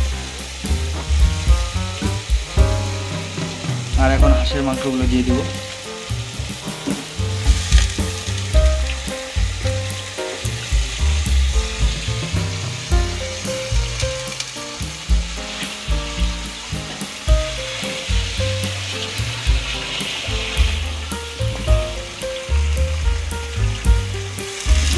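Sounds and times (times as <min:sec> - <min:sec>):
background music: 0:00.0 - 0:24.9
meat sizzling in hot oil: 0:00.0 - 0:24.9.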